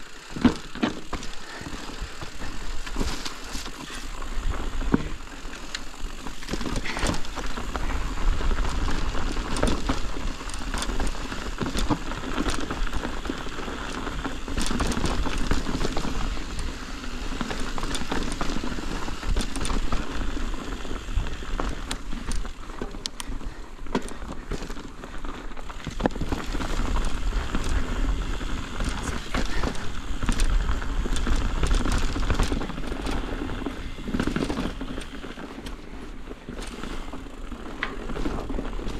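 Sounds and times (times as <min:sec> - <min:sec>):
bike tyres crunching over stones: 0:00.0 - 0:38.9.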